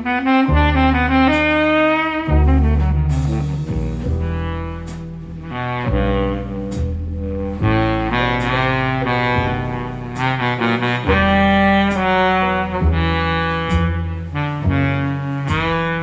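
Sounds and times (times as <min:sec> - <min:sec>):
jazz music over loudspeakers: 0:00.0 - 0:16.0
low bass notes: 0:00.0 - 0:16.0
saxophone line: 0:00.0 - 0:16.0.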